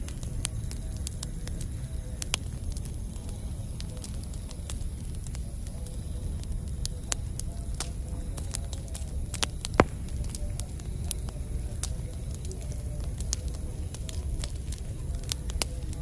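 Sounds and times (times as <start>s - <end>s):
low rumble of flames: 0.0s - 16.0s
sharp pops from fire: 0.0s - 16.0s
wood crackling: 0.0s - 16.0s.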